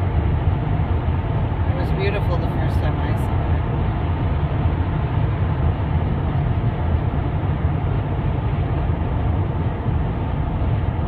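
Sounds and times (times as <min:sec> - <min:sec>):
car interior road drone: 0:00.0 - 0:11.0.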